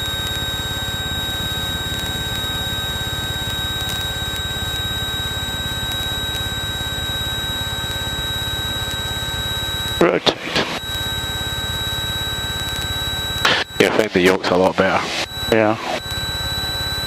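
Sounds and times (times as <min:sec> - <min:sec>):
thin high whine: 0:00.0 - 0:17.0.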